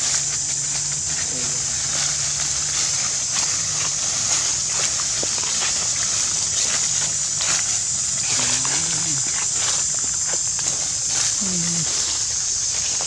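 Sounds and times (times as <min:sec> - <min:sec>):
footsteps crunching dry leaves: 0:00.0 - 0:13.0
high-pitched insect drone: 0:00.0 - 0:13.0.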